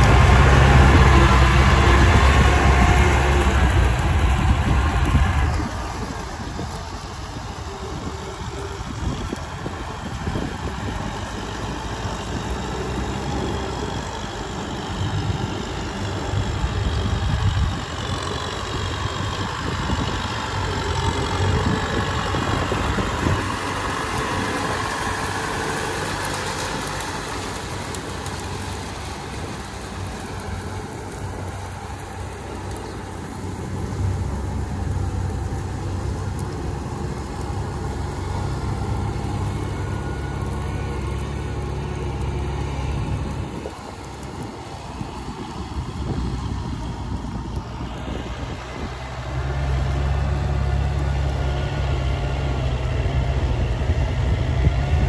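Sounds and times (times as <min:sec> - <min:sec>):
distant tractor running: 0:00.0 - 0:55.0
tractor diesel engine under load: 0:00.0 - 0:55.0.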